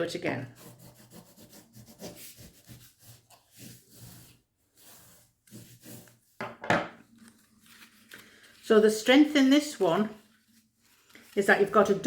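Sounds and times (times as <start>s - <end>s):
soft rubbing on card: 0.5s - 6.4s, 7.2s - 12.0s.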